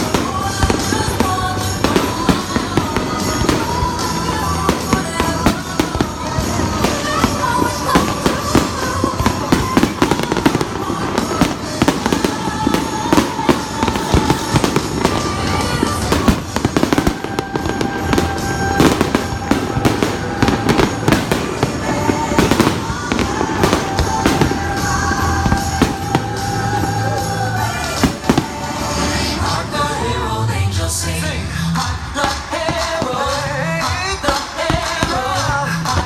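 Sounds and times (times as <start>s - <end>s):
fireworks banging and crackling: 0.0s - 30.4s, 31.2s - 36.0s
background music with held notes: 0.0s - 36.0s.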